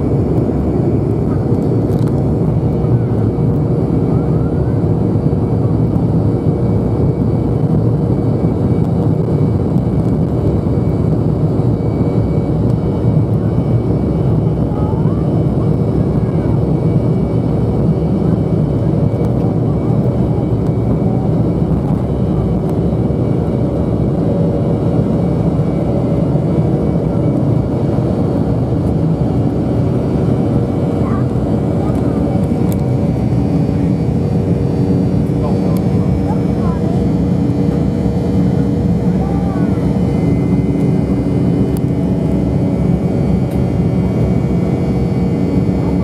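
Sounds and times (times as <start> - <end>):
jet engines rumbling in cabin: 0.0 - 46.0.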